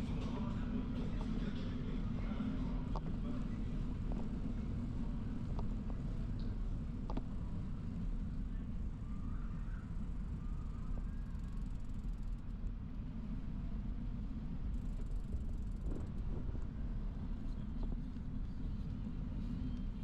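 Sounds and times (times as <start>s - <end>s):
wind and road noise rumble: 0.0s - 20.0s.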